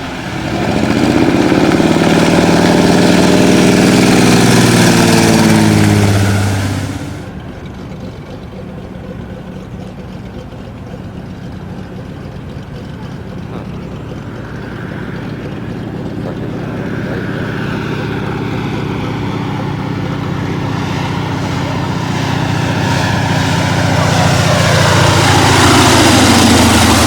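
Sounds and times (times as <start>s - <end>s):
plane engine and propeller: 0.0s - 27.0s.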